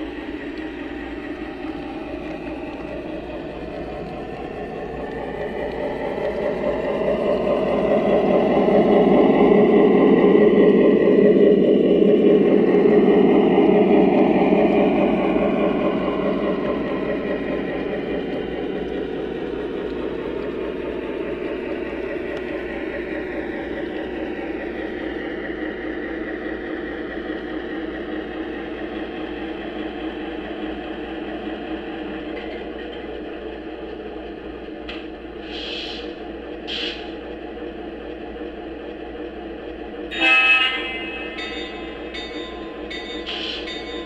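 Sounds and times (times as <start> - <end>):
model train rumbling on track: 0.0 - 44.0.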